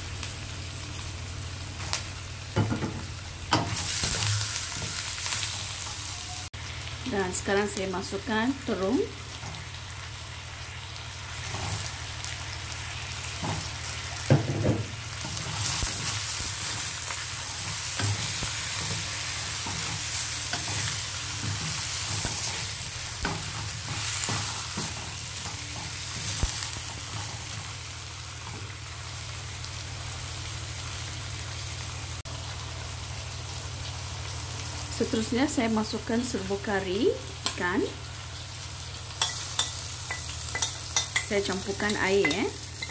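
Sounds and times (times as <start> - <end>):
vegetables sizzling in hot oil: 0.0 - 42.9.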